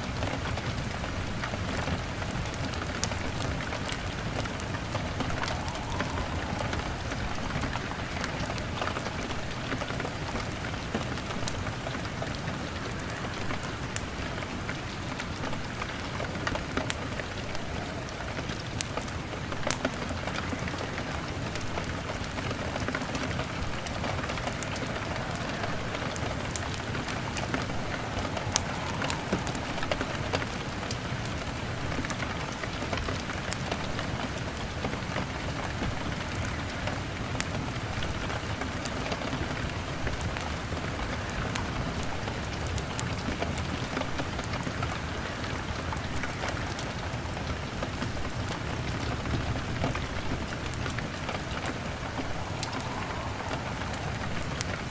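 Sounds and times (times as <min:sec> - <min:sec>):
rain on a window: 0:00.0 - 0:54.9
log fire crackling: 0:00.2 - 0:35.0, 0:35.7 - 0:54.9.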